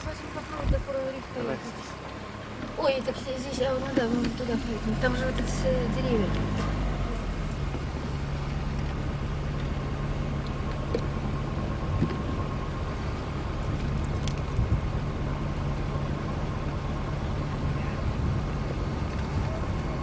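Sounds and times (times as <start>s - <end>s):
low car engine hum: 0.0s - 20.0s
road noise: 0.0s - 20.0s.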